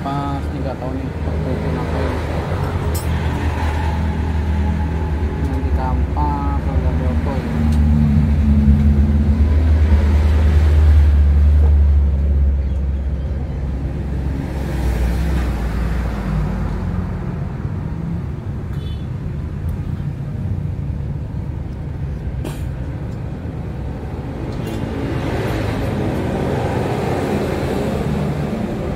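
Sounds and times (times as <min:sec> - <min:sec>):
heavy vehicle engine rumble: 0:00.0 - 0:28.9
vehicles passing: 0:00.0 - 0:28.9.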